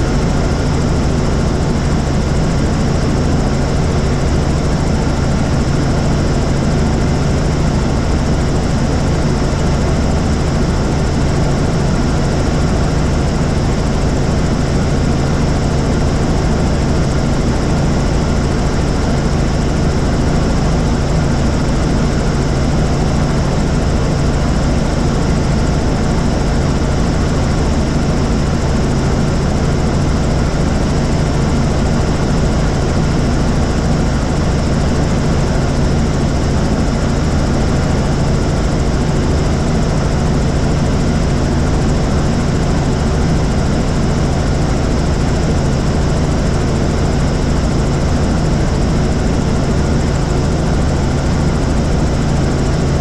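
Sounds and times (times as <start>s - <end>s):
helicopter rotor and engine noise: 0.0s - 53.0s.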